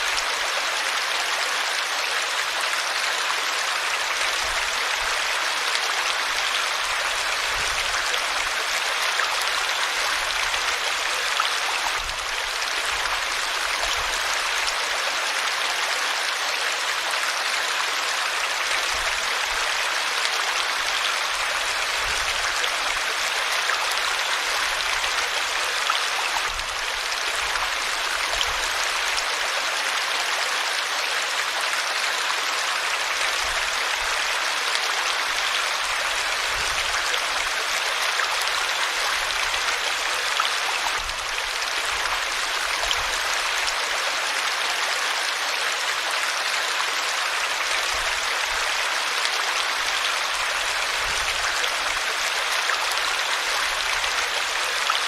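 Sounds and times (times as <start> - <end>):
river water flowing over rocks: 0.0 - 55.0.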